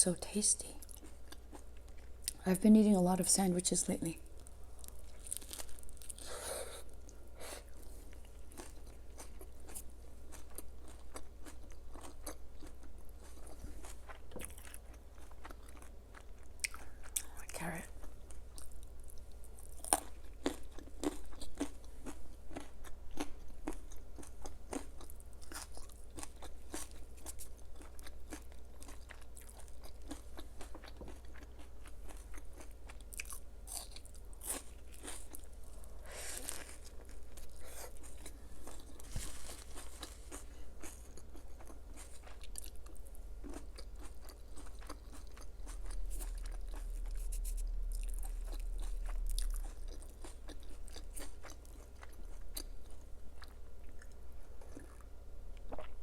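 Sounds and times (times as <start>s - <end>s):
carrot crunching while chewed: 4.4s - 56.0s.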